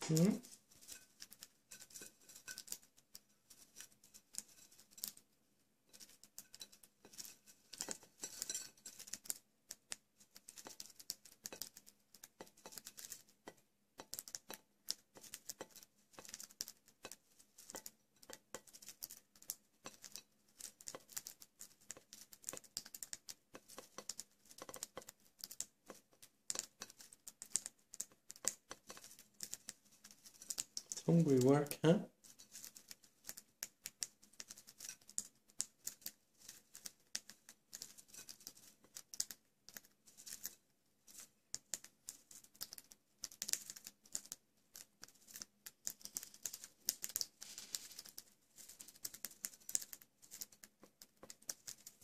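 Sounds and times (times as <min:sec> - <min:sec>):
birds pecking seeds on plate: 0:00.0 - 0:52.0.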